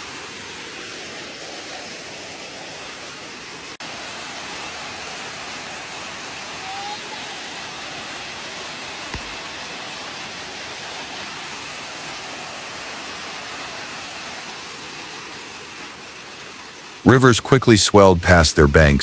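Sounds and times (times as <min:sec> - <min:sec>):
storm water rushing: 0:00.0 - 0:19.0.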